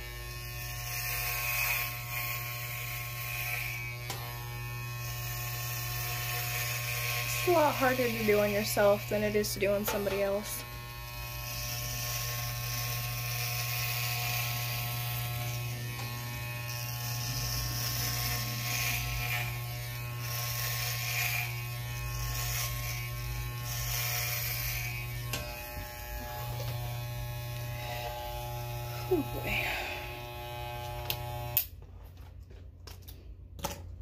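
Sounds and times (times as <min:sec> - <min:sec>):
electric hair clippers buzzing: 0:00.0 - 0:31.8.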